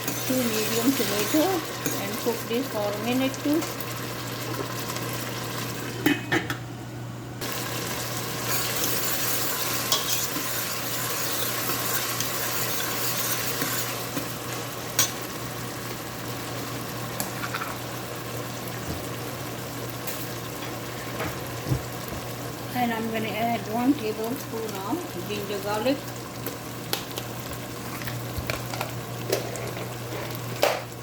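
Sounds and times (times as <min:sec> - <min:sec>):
vegetables sizzling in hot oil: 0:00.0 - 0:06.0, 0:07.4 - 0:31.0.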